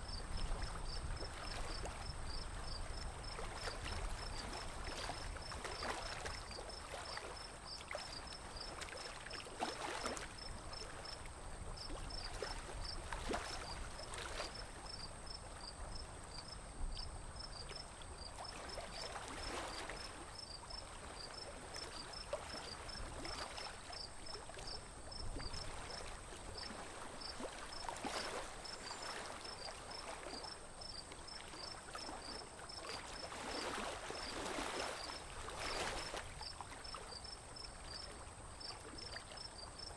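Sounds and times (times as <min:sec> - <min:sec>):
water lapping around a boat: 0:00.0 - 0:39.9
insect chirping: 0:00.1 - 0:39.9.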